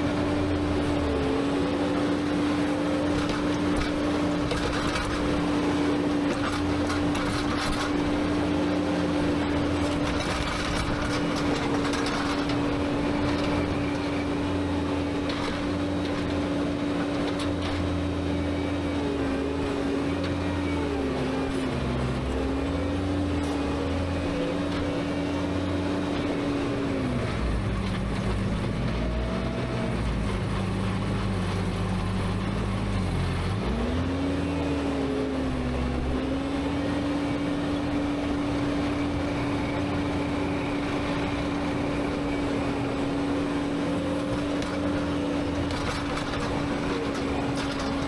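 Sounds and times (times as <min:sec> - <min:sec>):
skid steer engine at high revs: 0:00.0 - 0:48.0.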